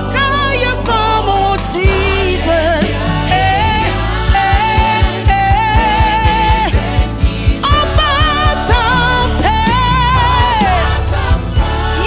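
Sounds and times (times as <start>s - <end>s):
gospel singers with band: 0.0s - 12.0s.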